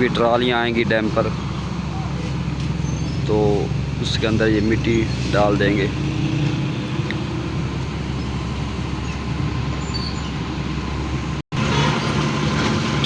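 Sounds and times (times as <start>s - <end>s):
heavy engine running: 0.0s - 13.0s
road traffic: 0.0s - 13.0s.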